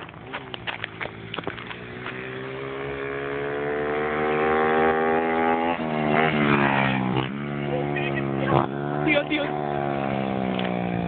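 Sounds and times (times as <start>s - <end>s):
pit bike engine accelerating: 0.0s - 11.0s.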